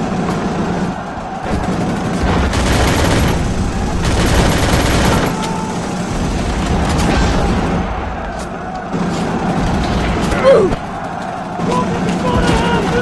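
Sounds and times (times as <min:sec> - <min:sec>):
rapid machine-gun fire: 0:00.0 - 0:13.0.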